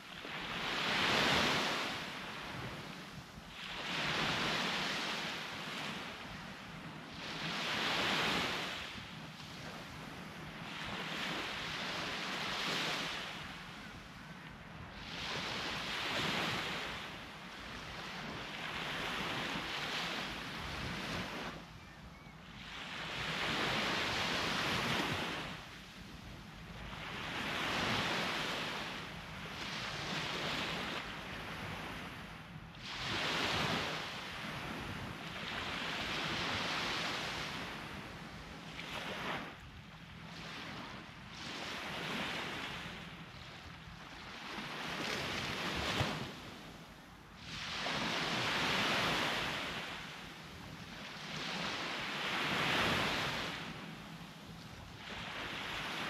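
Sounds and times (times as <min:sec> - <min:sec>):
sea waves breaking on beach: 0:00.0 - 0:13.9, 0:14.8 - 0:21.6, 0:22.6 - 0:56.0.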